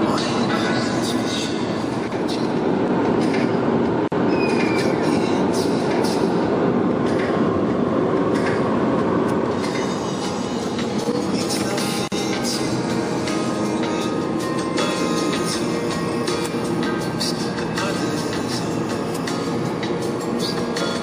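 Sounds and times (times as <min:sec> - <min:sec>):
car road and wind noise: 0:00.0 - 0:21.0.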